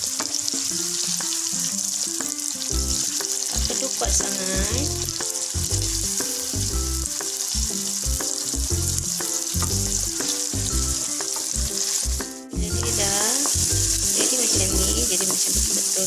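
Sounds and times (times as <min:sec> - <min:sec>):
eggs sizzling in a wok: 0:00.0 - 0:16.0
background music with bass: 0:02.7 - 0:15.7.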